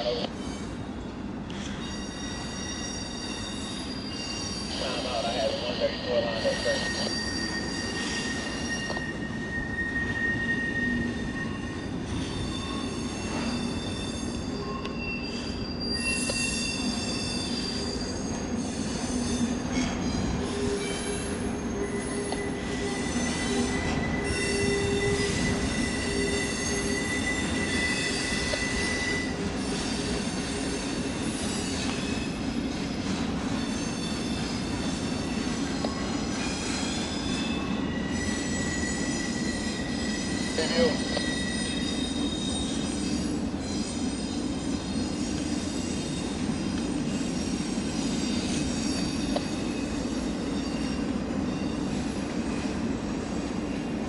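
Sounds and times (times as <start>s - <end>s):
train wheels rumbling on rail: 0.0s - 54.0s
high-pitched wheel squeal: 1.8s - 32.3s, 33.6s - 52.2s.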